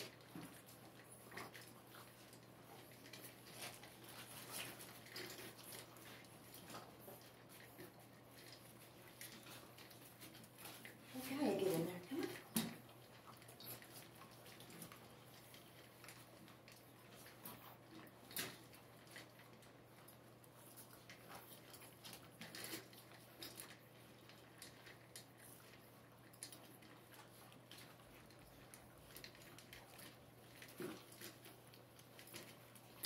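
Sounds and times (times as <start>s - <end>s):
puppies eating from metal bowls: 0.0s - 33.0s.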